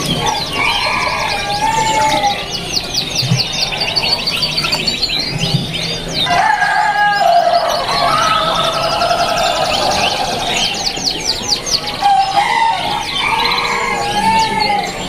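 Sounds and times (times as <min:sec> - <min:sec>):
canaries singing: 0:00.0 - 0:15.0.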